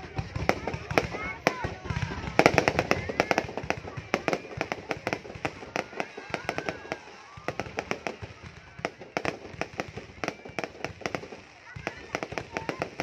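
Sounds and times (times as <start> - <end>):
fireworks banging and cracking: 0.0 - 13.0.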